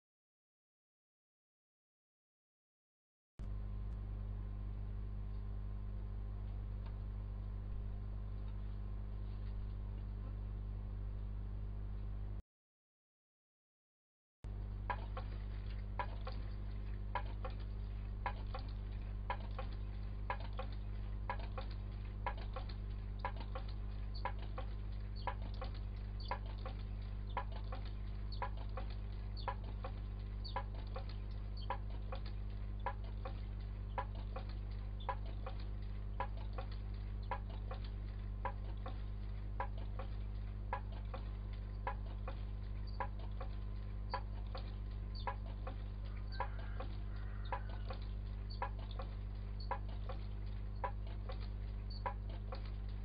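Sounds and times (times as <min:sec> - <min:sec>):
steady low hum: 0:03.4 - 0:12.4, 0:14.5 - 0:53.0.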